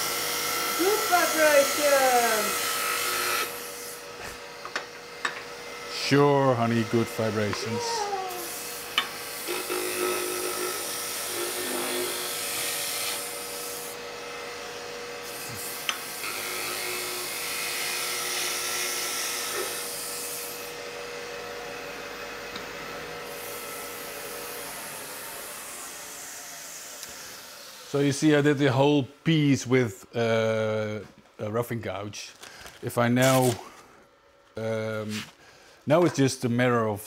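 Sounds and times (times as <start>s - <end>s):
wood lathe humming: 0.0s - 31.0s.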